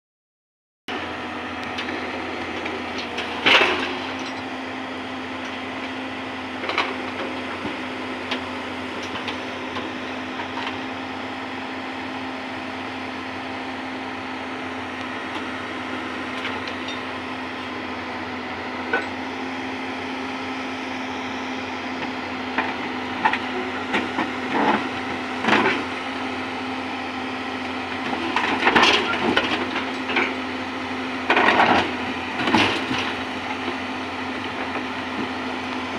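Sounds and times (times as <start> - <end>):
excavator diesel engine running: 0.9 - 35.9.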